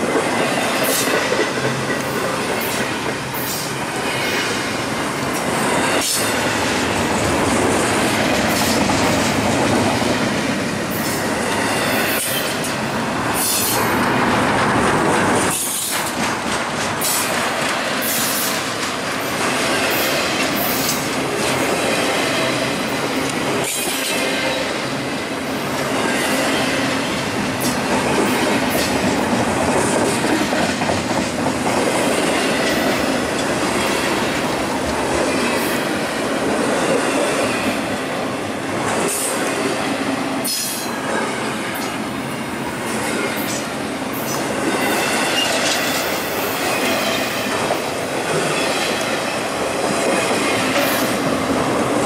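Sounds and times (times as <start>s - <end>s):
steel wheels rumbling on rail: 0.0s - 52.0s.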